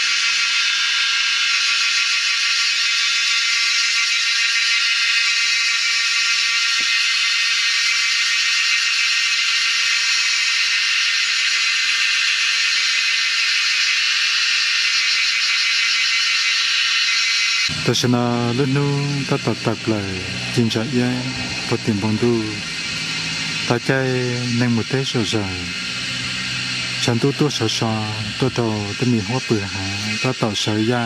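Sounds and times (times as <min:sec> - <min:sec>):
insect chorus buzzing: 0:00.0 - 0:31.0.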